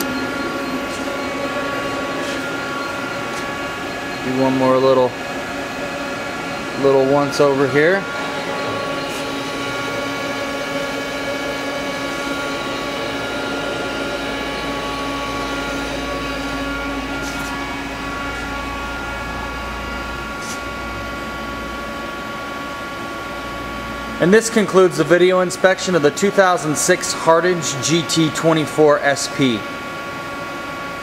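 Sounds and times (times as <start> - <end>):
machinery humming and whining: 0.0 - 31.0.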